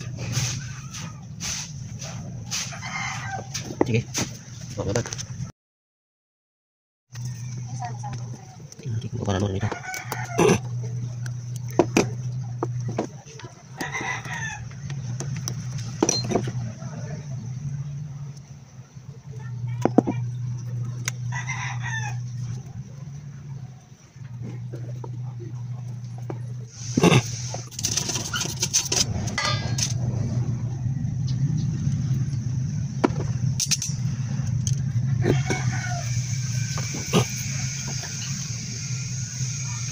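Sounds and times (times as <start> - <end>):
low hum: 7.1 - 39.9
motor droning: 7.1 - 39.9.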